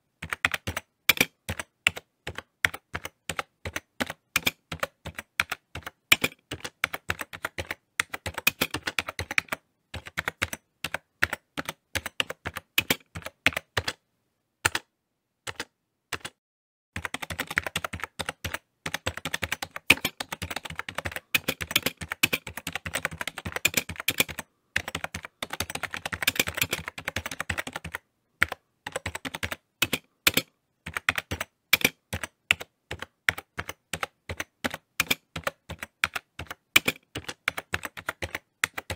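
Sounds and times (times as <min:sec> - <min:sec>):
keyboard typing: 0:00.0 - 0:16.4, 0:17.0 - 0:38.9.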